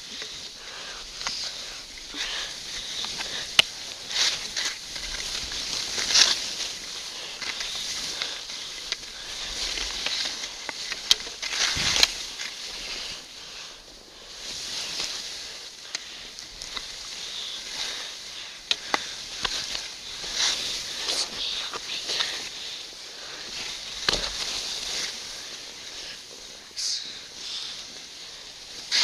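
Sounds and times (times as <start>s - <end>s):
skis hissing through powder snow: 0.0s - 29.0s.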